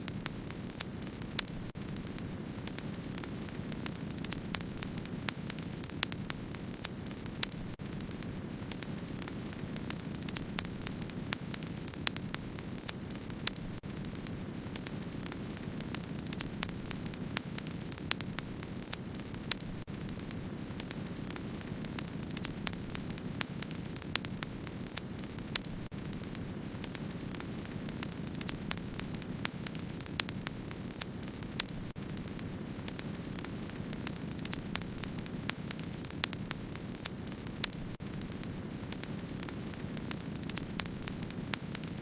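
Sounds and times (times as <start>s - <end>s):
campfire crackling and popping: 0.0s - 42.0s.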